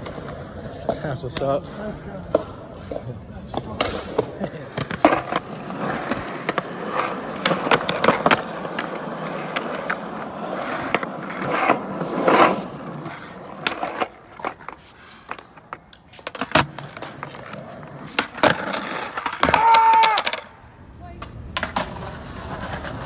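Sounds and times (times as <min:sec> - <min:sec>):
skateboard wheels rolling on concrete: 0:00.0 - 0:23.0
skateboard clacks: 0:02.3 - 0:23.0.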